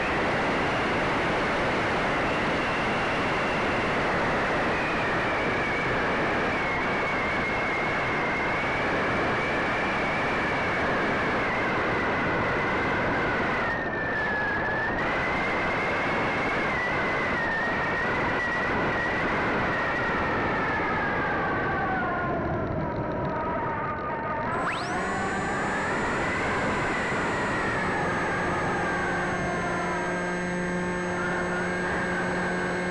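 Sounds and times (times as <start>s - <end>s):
electric motor and propeller whining: 0.0s - 32.9s.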